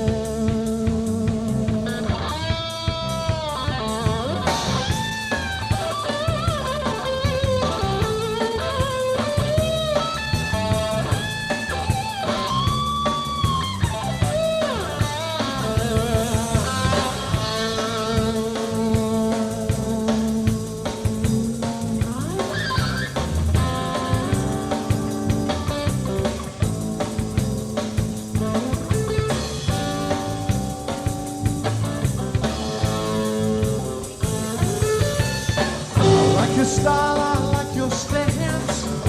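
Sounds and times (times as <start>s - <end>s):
bass guitar: 0.0s - 39.0s
drum kit: 0.0s - 39.0s
lead electric guitar bent notes: 0.0s - 39.0s.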